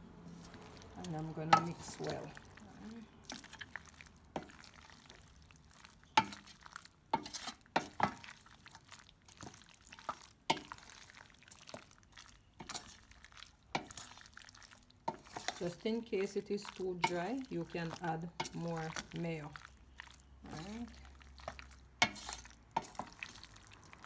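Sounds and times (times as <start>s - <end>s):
wet stirring of macaroni: 0.1s - 24.0s.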